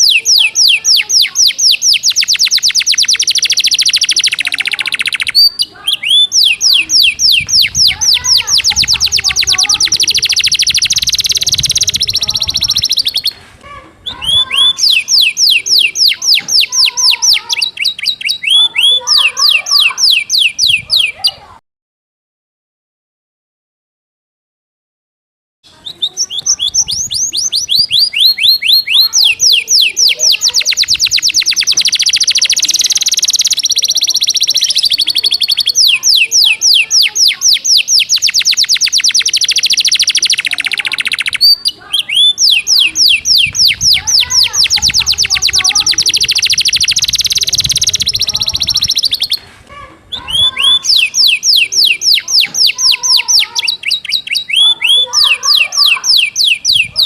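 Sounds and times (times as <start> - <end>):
canary singing trills: 0.0 - 21.5, 25.7 - 57.0.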